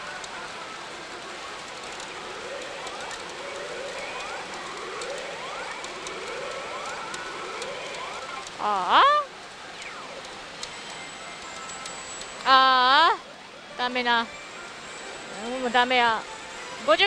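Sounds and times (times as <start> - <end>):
din of busy pachinko parlour: 0.0 - 17.0
pachinko machine rising glides: 0.0 - 17.0.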